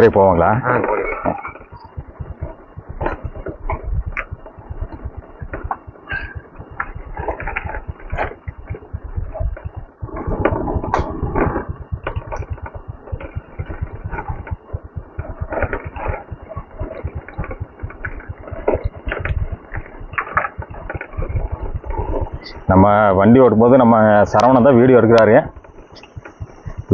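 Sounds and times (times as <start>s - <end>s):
motorcycle engine running: 1.5s - 23.8s, 25.5s - 26.9s.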